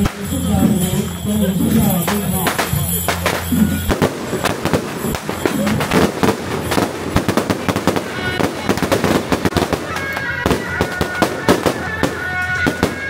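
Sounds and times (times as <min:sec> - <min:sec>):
firecrackers cracking: 0:00.0 - 0:13.0.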